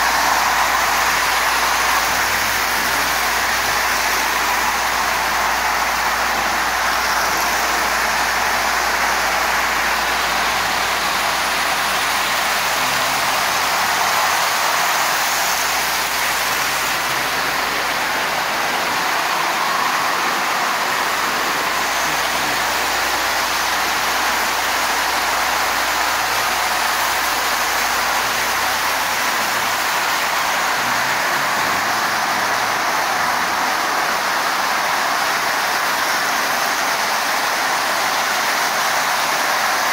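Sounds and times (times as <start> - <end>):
toy trains running on metal track: 0.0 - 39.9.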